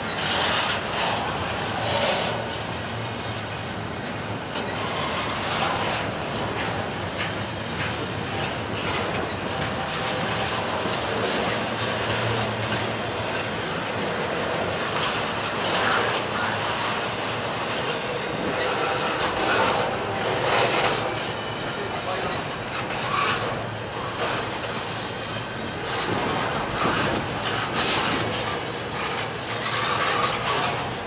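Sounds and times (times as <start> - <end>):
freight train rolling past: 0.0 - 31.0
wheels clicking over rail joints: 0.0 - 31.0.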